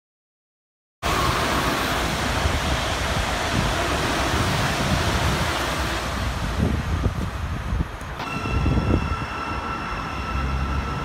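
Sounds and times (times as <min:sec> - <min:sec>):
electric train rumbling on track: 0:01.0 - 0:11.0
wind buffeting microphone: 0:01.1 - 0:11.0.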